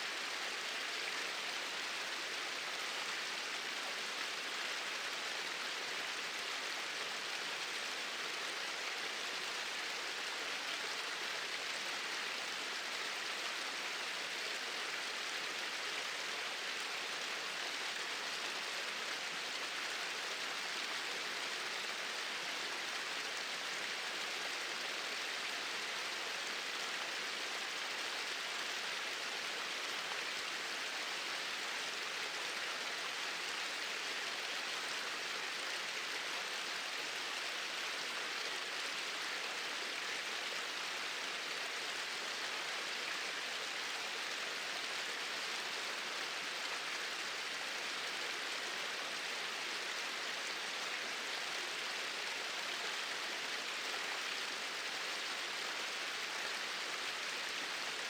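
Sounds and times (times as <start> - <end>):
small waterfall pouring: 0.1 - 58.0.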